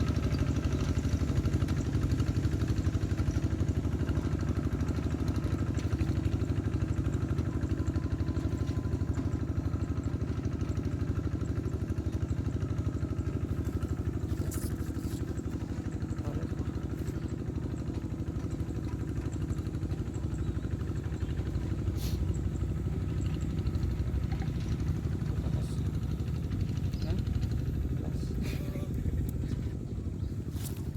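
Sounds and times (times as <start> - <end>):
diesel engine chugging: 0.0 - 30.9.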